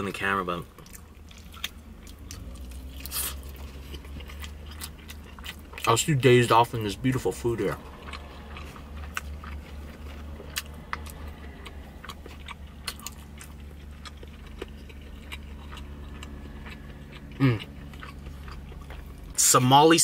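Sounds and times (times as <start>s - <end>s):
steady low hum: 0.0s - 20.0s
person chewing: 0.2s - 19.4s.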